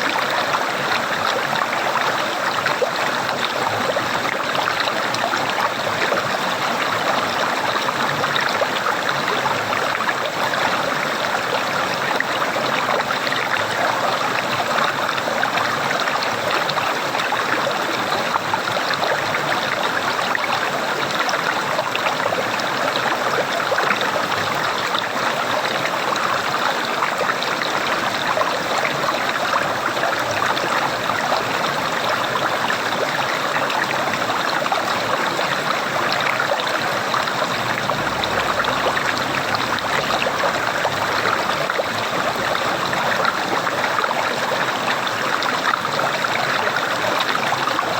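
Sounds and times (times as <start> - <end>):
flowing water gurgling: 0.0 - 47.9.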